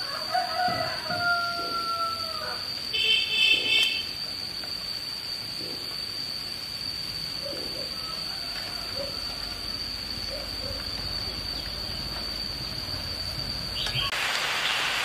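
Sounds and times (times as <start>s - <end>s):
high-pitched whine: 0.0s - 14.4s.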